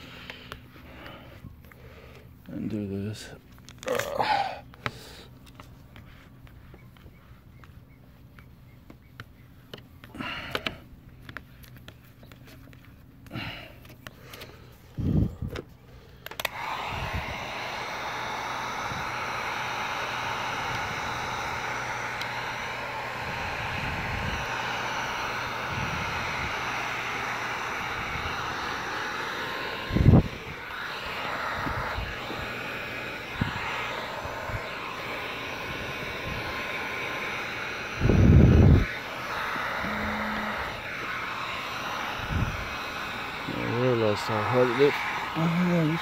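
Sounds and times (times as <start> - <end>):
heat gun blowing: 0.0 - 2.4, 9.7 - 46.0.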